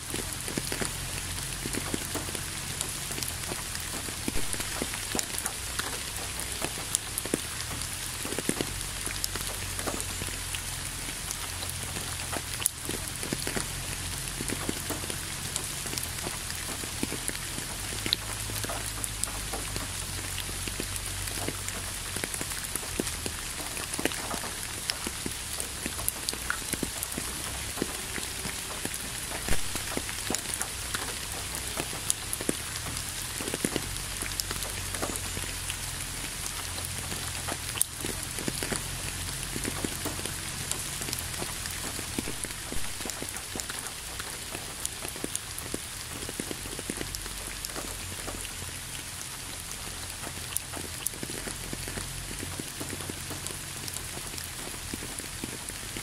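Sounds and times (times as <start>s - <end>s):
rain falling: 0.0s - 56.0s
raindrop ticks: 0.0s - 56.0s.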